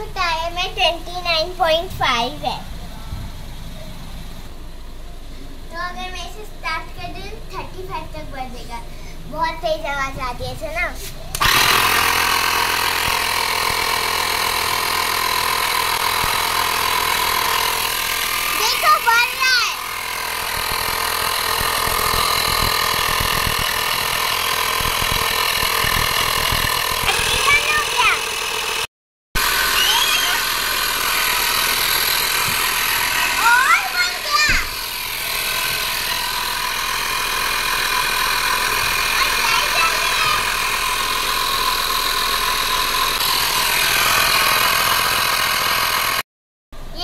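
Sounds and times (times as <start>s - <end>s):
air compressor running: 0.0s - 5.7s, 6.9s - 9.3s, 11.0s - 46.9s.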